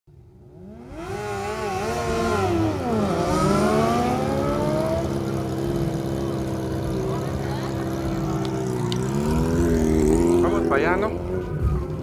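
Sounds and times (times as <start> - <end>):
motorcycle engines revving: 0.2 - 12.0.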